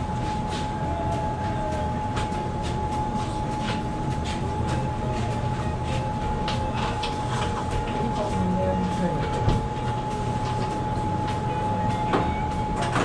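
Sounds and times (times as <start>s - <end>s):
machinery hum with high whine: 0.0s - 13.0s.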